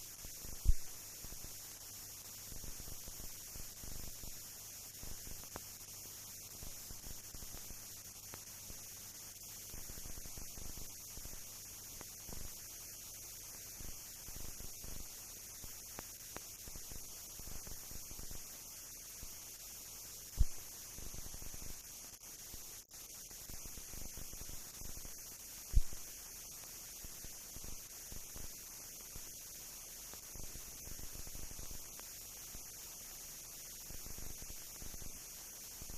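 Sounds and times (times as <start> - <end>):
faint crackles: 0.0 - 35.9
film hiss and mains hum: 0.0 - 35.9.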